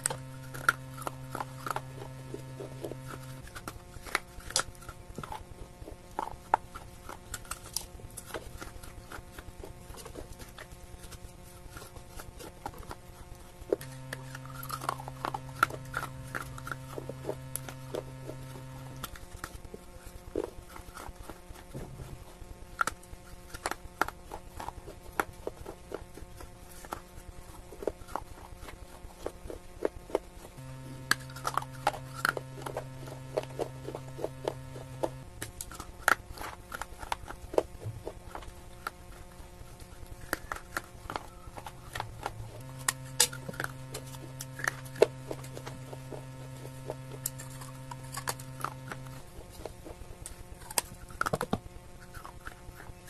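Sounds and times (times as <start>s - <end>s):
clay being chewed crunching: 0.0s - 53.0s.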